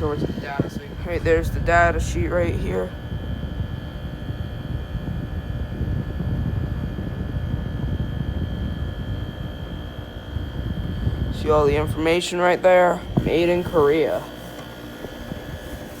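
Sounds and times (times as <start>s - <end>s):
air conditioner running: 0.0s - 16.0s.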